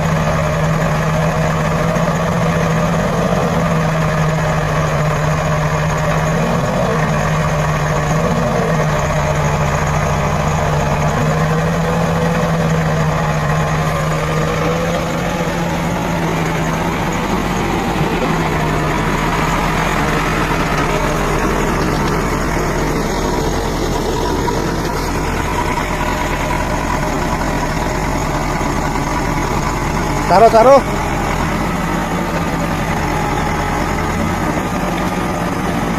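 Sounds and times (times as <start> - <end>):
backhoe diesel engine running: 0.0 - 35.9.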